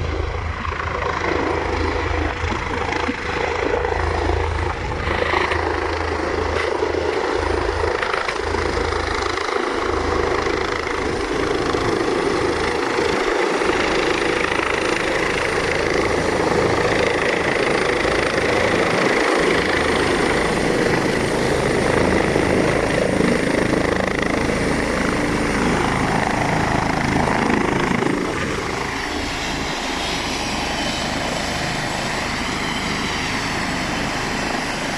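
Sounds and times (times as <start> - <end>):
helicopter rotor and turbine: 0.0 - 34.9.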